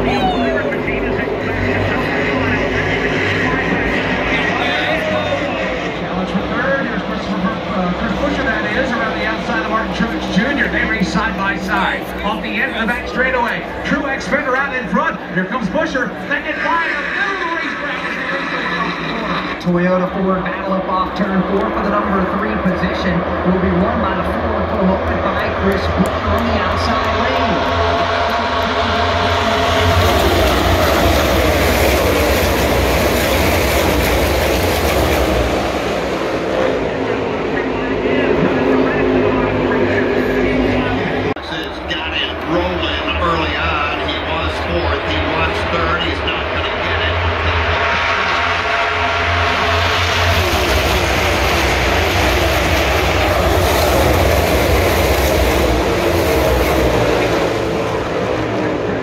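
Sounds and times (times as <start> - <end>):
stock cars racing past: 0.0 - 59.0.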